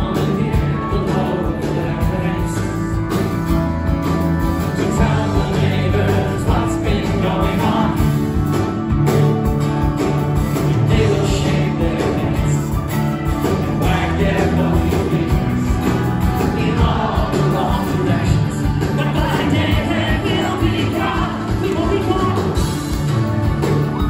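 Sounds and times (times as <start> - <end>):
acoustic guitar: 0.0 - 24.0
bass guitar: 0.0 - 24.0
drums: 0.0 - 24.0
piano: 0.0 - 24.0.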